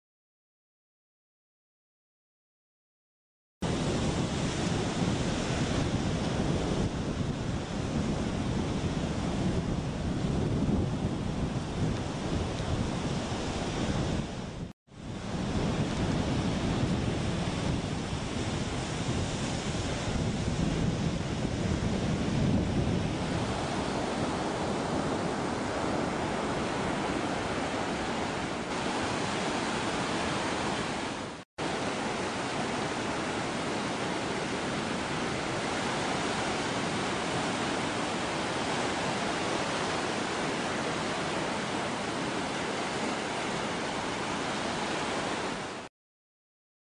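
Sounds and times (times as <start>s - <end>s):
wind buffeting microphone: 3.6s - 45.6s
surf rushing on a beach: 3.6s - 45.9s.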